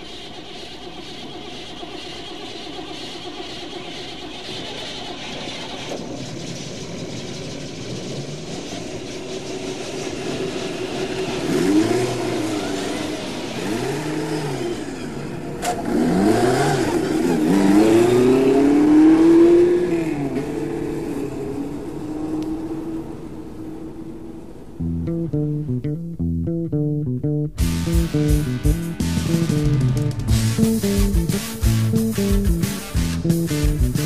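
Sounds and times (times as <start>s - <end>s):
engine idling and revving: 0.0s - 25.7s, 27.5s - 34.0s.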